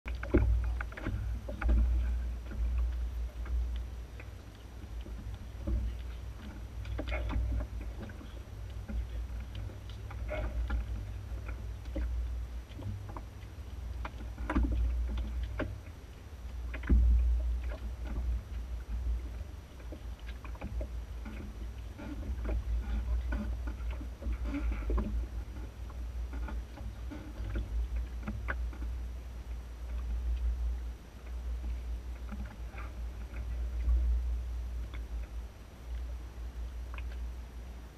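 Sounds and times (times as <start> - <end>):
low rumble inside boat hull: 0.0 - 37.9
boat hull knocks and creaks: 0.1 - 37.4.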